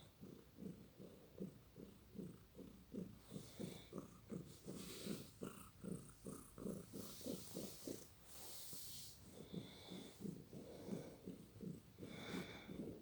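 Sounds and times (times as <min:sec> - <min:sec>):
cat snoring: 0:00.0 - 0:13.0.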